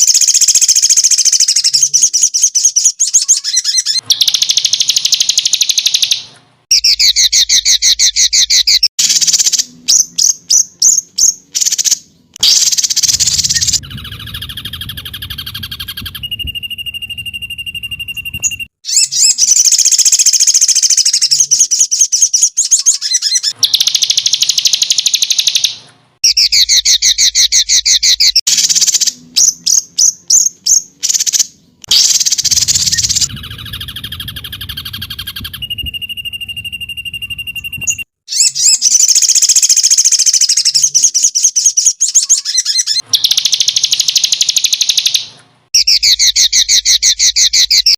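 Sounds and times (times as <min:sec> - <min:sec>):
bird high whistle: 0:00.0 - 0:47.9
songbird trills and chirps: 0:00.0 - 0:47.9.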